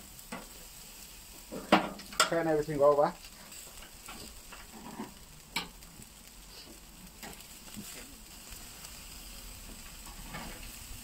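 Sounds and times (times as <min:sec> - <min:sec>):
chicken sizzling on grill: 0:00.0 - 0:11.0.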